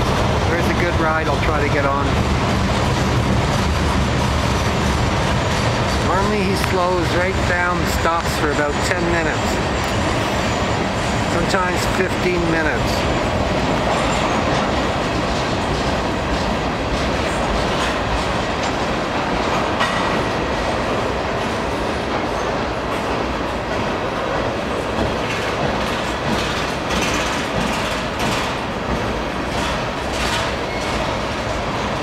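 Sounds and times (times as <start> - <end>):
steel wheels rumbling on rail: 0.0 - 32.0
wheels clicking over rail joints: 0.1 - 32.0.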